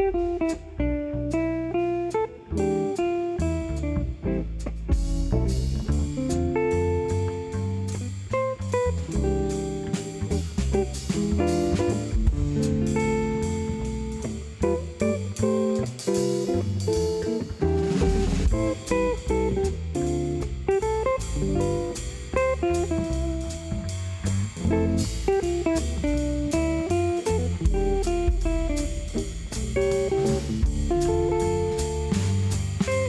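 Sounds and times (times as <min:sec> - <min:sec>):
instrumental blues band music: 0:00.0 - 0:33.0.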